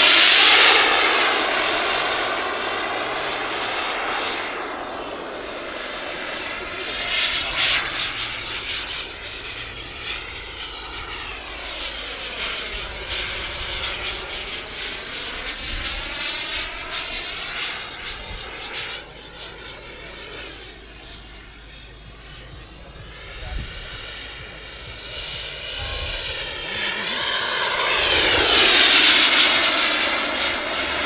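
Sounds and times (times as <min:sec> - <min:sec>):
model jet turbine whine: 0:00.0 - 0:31.0.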